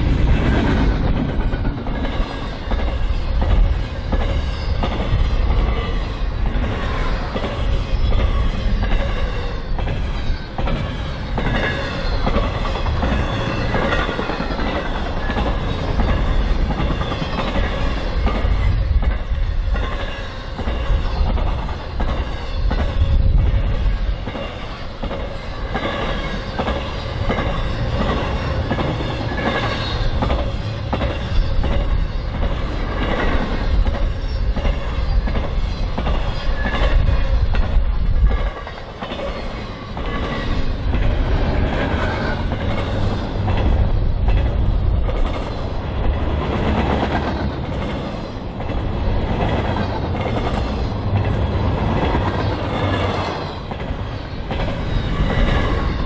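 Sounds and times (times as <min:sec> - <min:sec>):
train wheels rumbling on rail: 0:00.0 - 0:56.0
wheels clicking over rail joints: 0:00.0 - 0:56.0.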